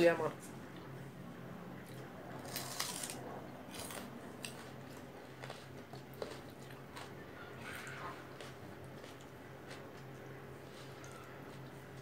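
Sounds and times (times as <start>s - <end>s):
raw onion crunching when chewed: 1.8s - 12.0s.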